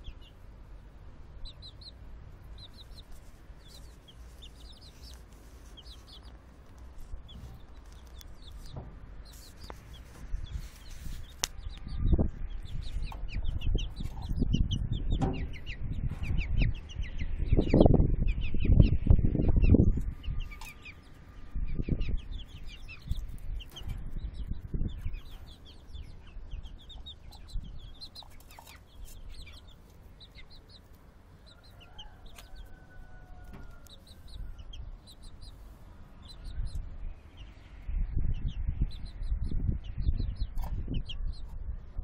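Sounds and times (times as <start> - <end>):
chicks peeping and chirping: 0.0 - 42.0
chickens clucking: 1.3 - 42.0
low rumbles on microphone: 2.2 - 29.7, 35.8 - 42.0.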